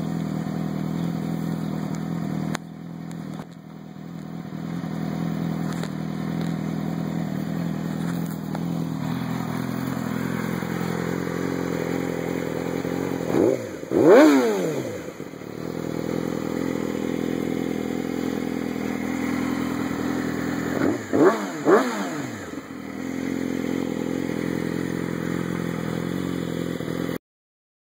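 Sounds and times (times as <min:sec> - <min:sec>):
motorcycle engine idling: 0:00.0 - 0:27.2
motorcycle throttle blips: 0:00.0 - 0:27.2.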